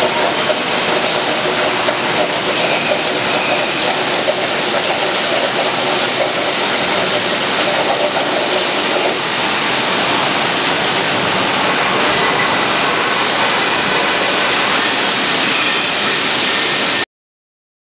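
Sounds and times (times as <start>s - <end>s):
plasma torch cutting steel: 0.0s - 9.8s, 11.0s - 17.0s.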